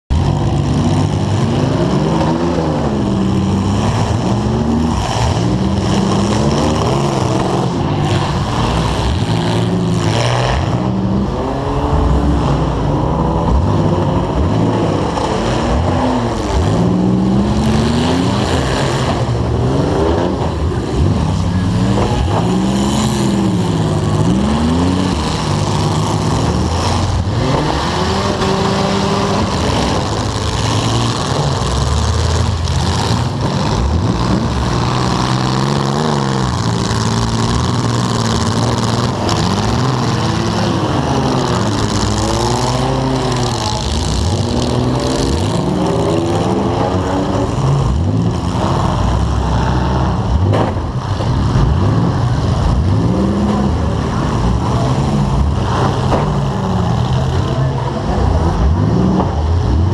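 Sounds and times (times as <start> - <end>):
car engine revving: 0.0 - 59.9
other car engines running: 0.0 - 59.9.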